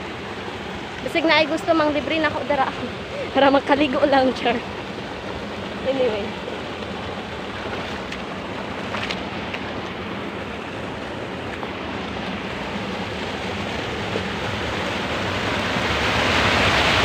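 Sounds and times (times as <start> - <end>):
turbulent water rushing: 0.0 - 17.0.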